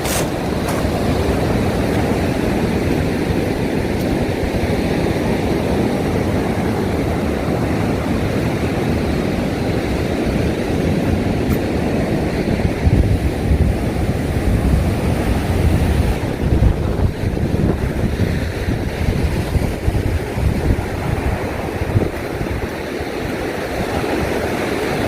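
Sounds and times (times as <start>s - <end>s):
ocean surf rushing onto beach: 0.0s - 25.0s.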